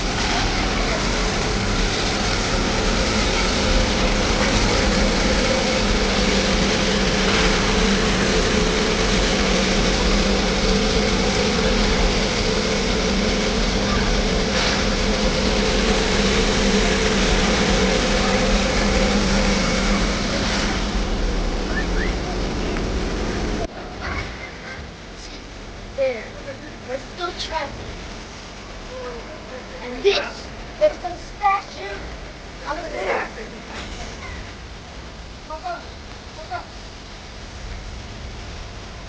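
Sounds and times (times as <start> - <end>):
steam train running noise: 0.0 - 39.0.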